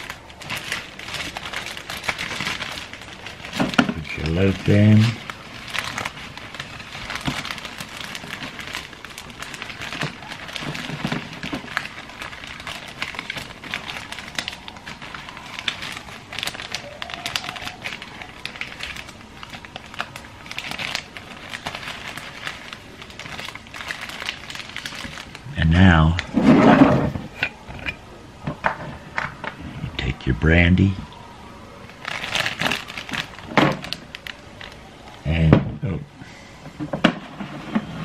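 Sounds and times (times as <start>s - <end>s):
plastic bag crinkling: 0.0s - 27.7s, 31.8s - 35.2s.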